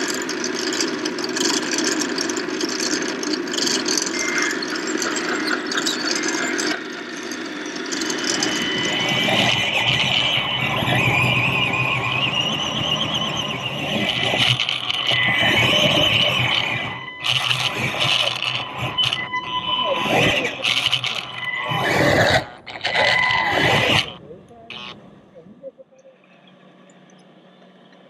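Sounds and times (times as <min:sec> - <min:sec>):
electric motor whine: 0:00.0 - 0:25.0
machinery sounds: 0:00.0 - 0:28.0.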